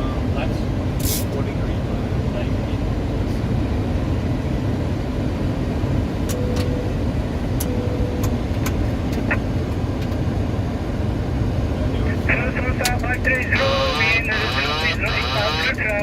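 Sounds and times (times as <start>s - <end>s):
airflow and engines rushing: 0.0s - 16.0s.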